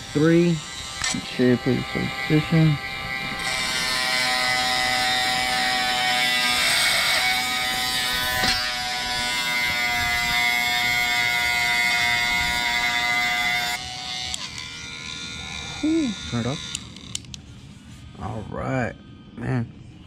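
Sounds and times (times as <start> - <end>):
rotary tool grinding metal: 0.0 - 17.4.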